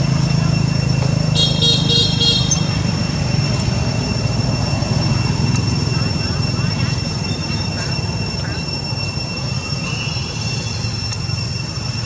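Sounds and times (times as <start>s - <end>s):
faint high drone: 0.0s - 12.0s
low rumble of traffic: 0.0s - 12.0s.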